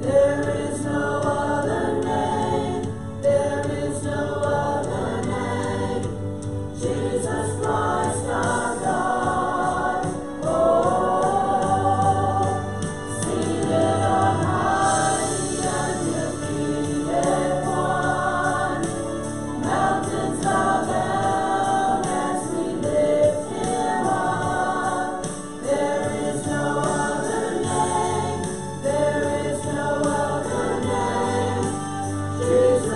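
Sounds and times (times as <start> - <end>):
choir singing a hymn: 0.0 - 32.9.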